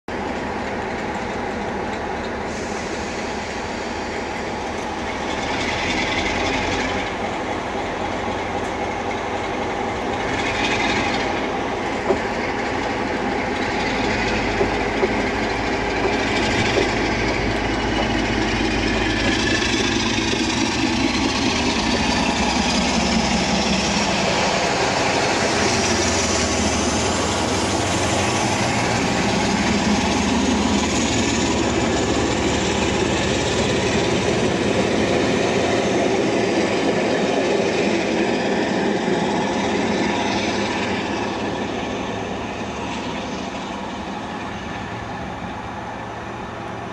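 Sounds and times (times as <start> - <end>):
diesel locomotive engine working: 0.1 - 46.9.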